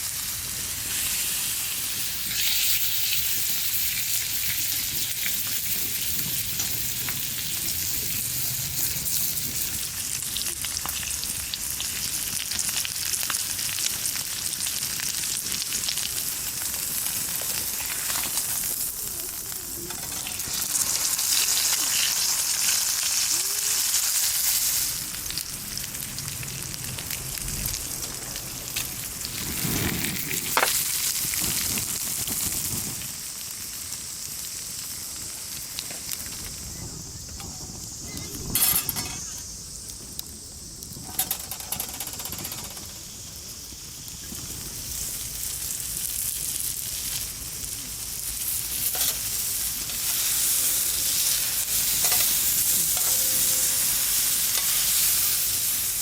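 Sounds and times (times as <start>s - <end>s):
steak sizzling in a pan: 0.0s - 40.2s, 42.8s - 56.0s.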